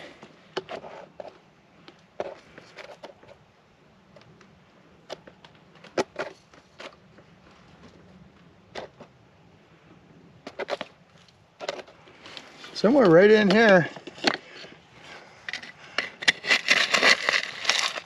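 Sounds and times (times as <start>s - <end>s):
gravel and stones clicking and scraping: 0.0s - 18.0s.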